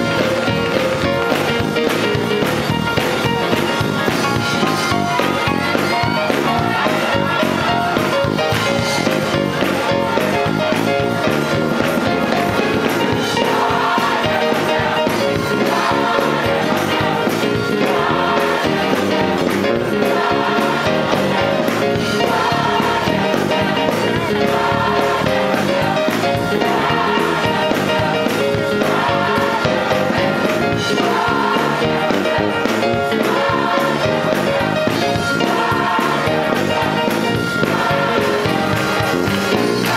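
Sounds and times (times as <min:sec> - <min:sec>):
gospel choir singing: 0:00.0 - 0:39.9
instrumental accompaniment with beat: 0:00.0 - 0:39.9.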